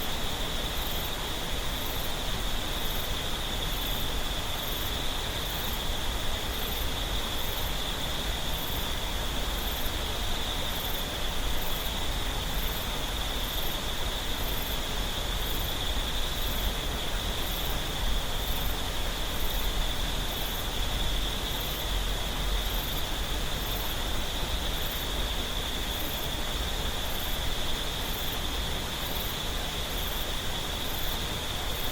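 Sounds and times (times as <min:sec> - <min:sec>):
high insect drone: 0:00.0 - 0:31.9.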